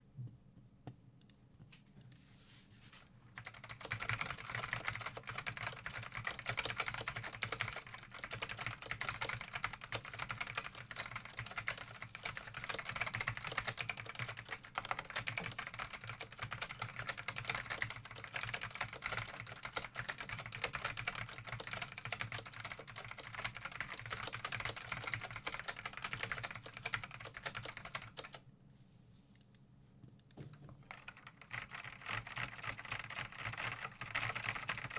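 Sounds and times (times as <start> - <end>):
mechanical keyboard typing: 3.4 - 28.4, 30.9 - 34.9.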